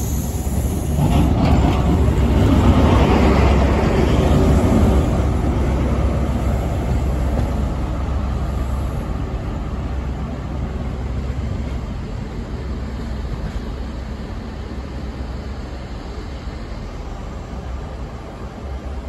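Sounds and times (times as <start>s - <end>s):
diesel train engine rumbling: 0.0s - 19.0s.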